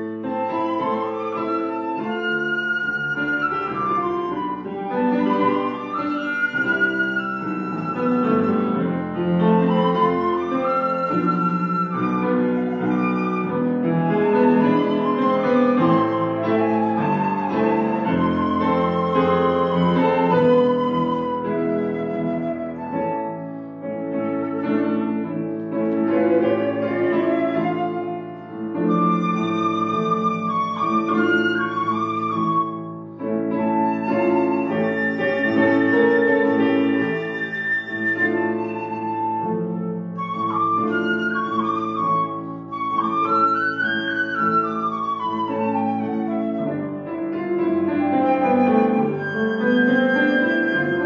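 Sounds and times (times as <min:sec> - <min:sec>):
flute melody: 0:00.0 - 0:51.0
piano chords: 0:00.0 - 0:51.0.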